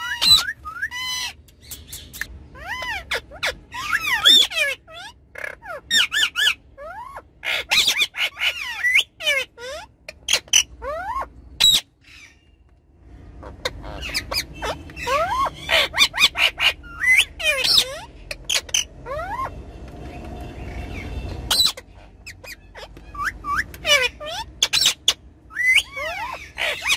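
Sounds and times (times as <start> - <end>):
low steady rumble: 0.0 - 26.9
parrots calling: 0.0 - 26.9.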